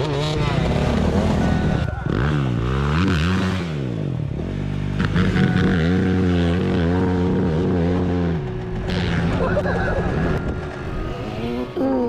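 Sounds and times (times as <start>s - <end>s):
dirt bike engine revving high: 0.0s - 12.0s.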